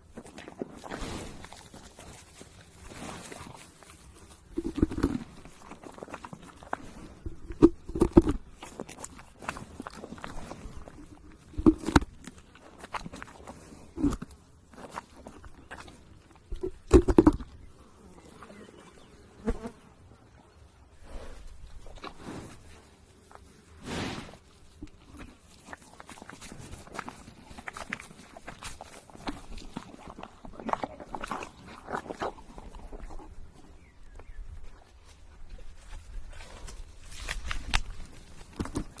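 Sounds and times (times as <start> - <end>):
biting and chewing: 0.0 - 19.7, 21.0 - 39.0.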